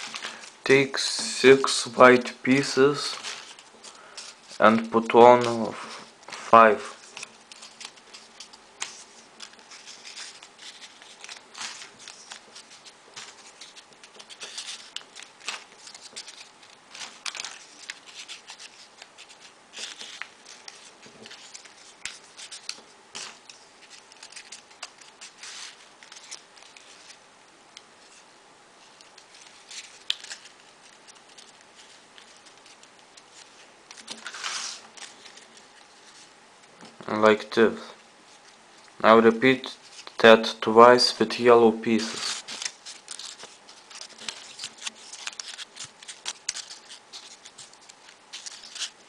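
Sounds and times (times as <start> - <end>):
paper rustling and clicking: 2.2 - 28.2, 28.9 - 37.0, 39.8 - 40.2, 41.9 - 49.0.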